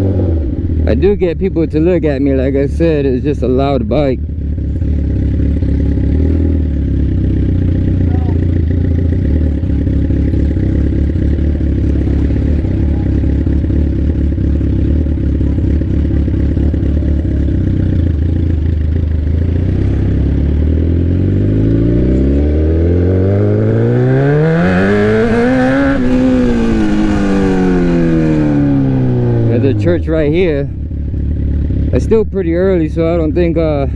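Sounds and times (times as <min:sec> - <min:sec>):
motorcycle exhaust revving: 0:00.0 - 0:33.9.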